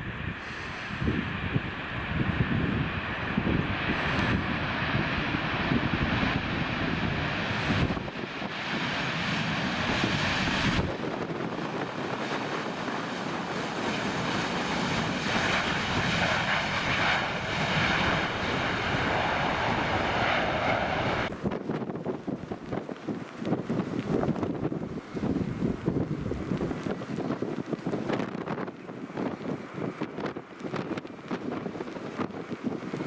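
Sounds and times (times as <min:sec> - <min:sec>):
jet engines roaring: 0:00.0 - 0:33.0
wind rumbling on microphone: 0:00.0 - 0:33.0.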